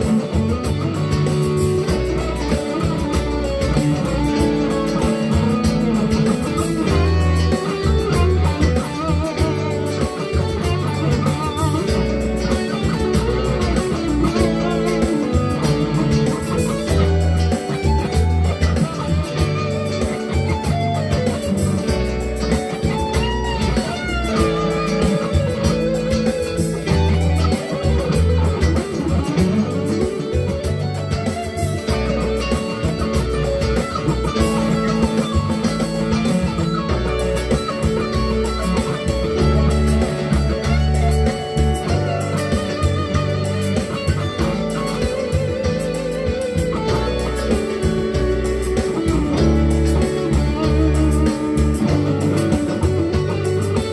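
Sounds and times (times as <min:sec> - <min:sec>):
electric guitar lead lines: 0:00.0 - 0:53.9
low bass line: 0:00.0 - 0:53.9.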